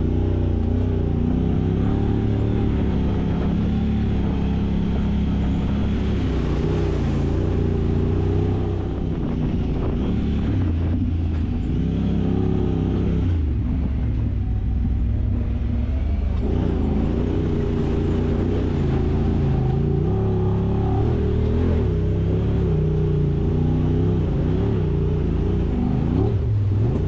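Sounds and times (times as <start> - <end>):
utility vehicle engine revving: 0.0 - 27.0.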